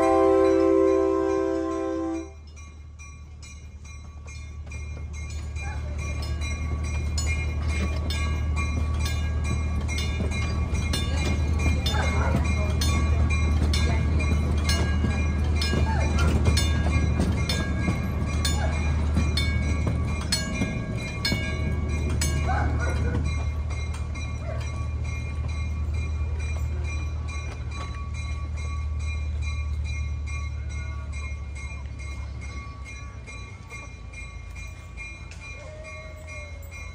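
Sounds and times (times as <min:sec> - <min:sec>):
miniature train rumbling on rails: 0:00.0 - 0:36.9
railroad crossing bell ringing: 0:00.0 - 0:36.9.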